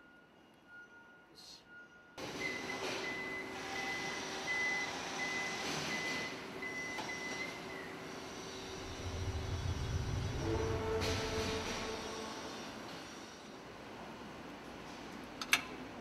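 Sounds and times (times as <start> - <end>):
factory hum: 0.0 - 16.0.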